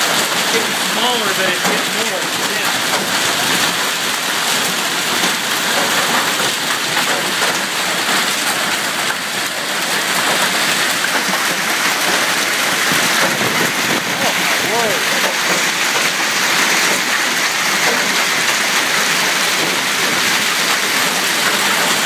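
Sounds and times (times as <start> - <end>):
hail and heavy rain falling: 0.0 - 22.0.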